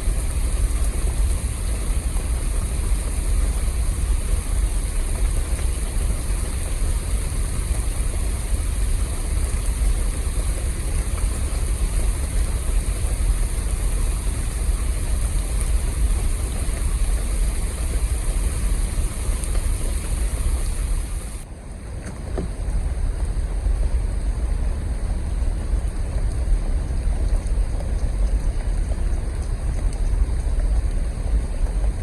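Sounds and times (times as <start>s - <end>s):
high steady hiss: 0.0s - 32.0s
wind buffeting microphone: 0.0s - 32.0s.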